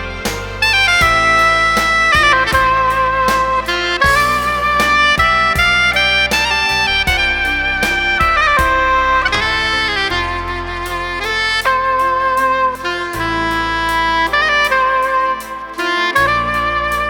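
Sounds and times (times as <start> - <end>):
backing track with steady beat: 0.0 - 17.0
saxophone slow melody: 0.0 - 17.0.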